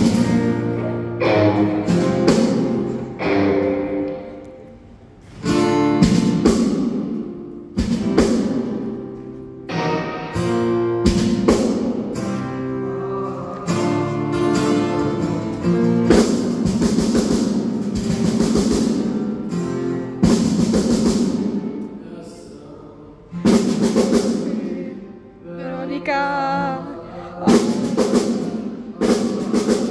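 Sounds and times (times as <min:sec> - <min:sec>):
rock band playing live: 0:00.0 - 0:22.0, 0:23.4 - 0:25.4, 0:27.4 - 0:29.9
acoustic guitar strumming chords: 0:00.0 - 0:29.9.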